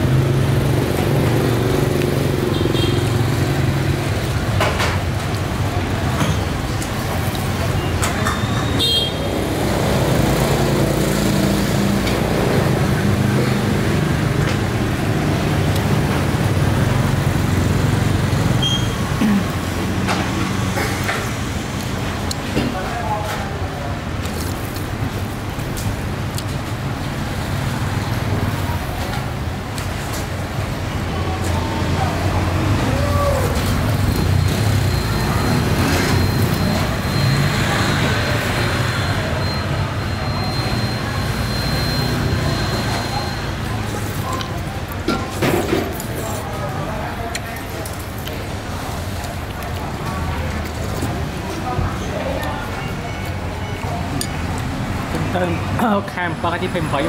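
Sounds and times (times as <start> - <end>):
street traffic noise: 0.0 - 57.0.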